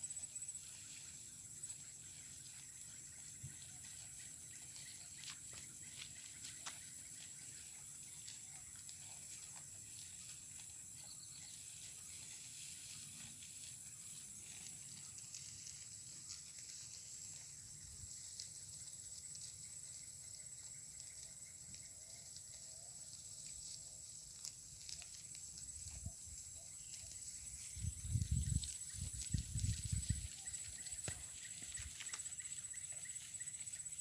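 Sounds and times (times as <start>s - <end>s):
insects droning high-pitched: 0.0s - 34.0s.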